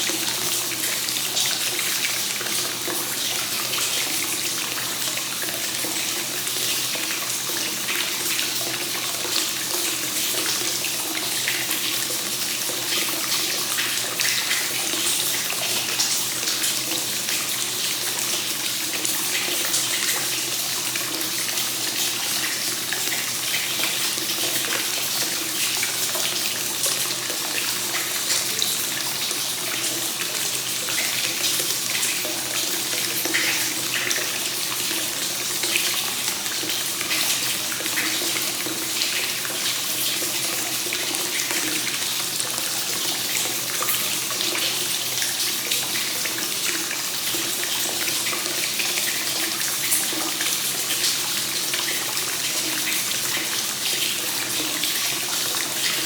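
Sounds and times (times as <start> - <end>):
water flowing into a bath: 0.0 - 56.0.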